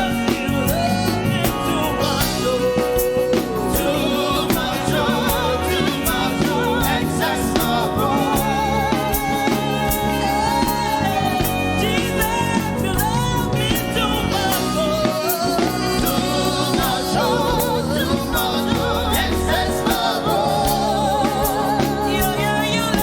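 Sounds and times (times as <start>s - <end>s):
gospel band playing: 0.0s - 23.0s
person singing with vibrato: 0.0s - 23.0s.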